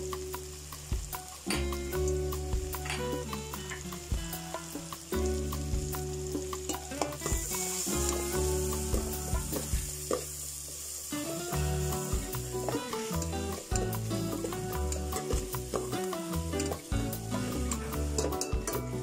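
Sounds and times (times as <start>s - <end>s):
onion sizzling in butter: 0.0s - 19.0s.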